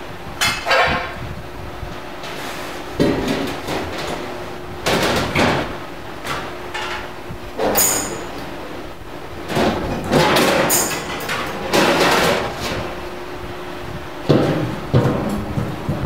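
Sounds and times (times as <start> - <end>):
faint machine hum: 0.0 - 16.0.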